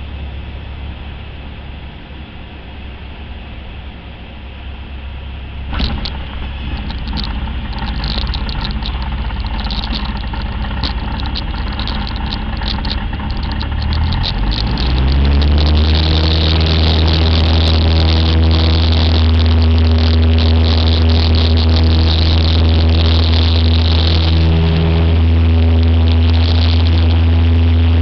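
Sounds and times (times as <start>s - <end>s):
plane rumbling and rattling: 0.0s - 28.0s
propeller plane engine drone: 0.0s - 28.0s.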